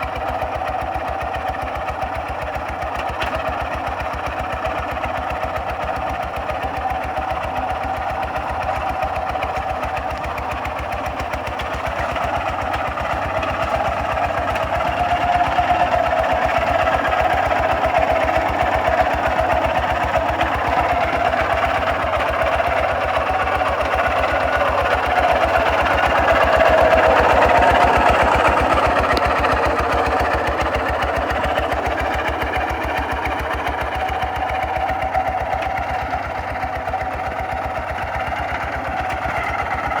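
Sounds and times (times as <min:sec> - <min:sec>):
diesel engine chugging: 0:00.0 - 0:40.0.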